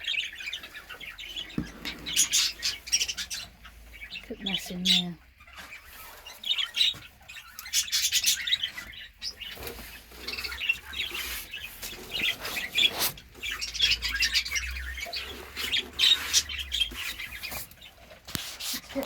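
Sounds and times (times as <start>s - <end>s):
budgerigars chirping: 0.0s - 19.0s.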